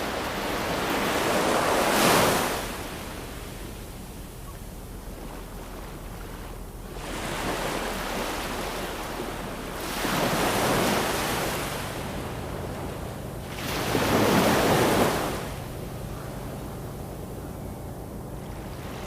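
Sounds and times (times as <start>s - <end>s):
waves breaking on shore: 0.0s - 17.4s, 18.4s - 19.0s.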